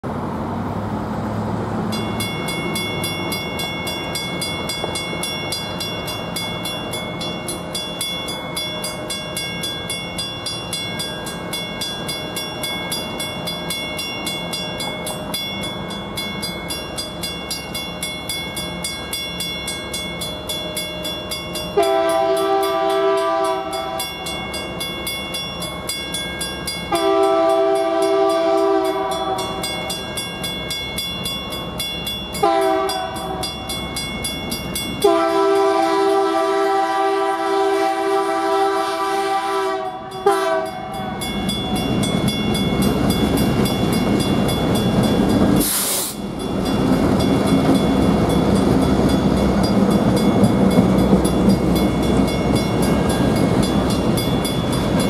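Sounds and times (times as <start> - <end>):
railroad crossing bells ringing: 1.1 - 55.0.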